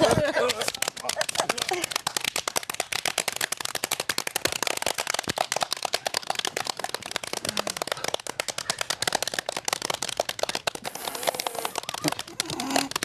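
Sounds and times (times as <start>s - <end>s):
palms slapping a stage floor: 0.0s - 13.0s.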